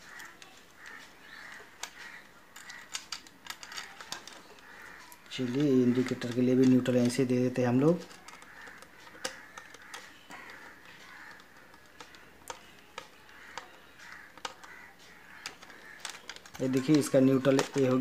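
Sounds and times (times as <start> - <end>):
light handling noise: 0.0 - 18.0
screwdriver clicks and ticks: 0.0 - 18.0.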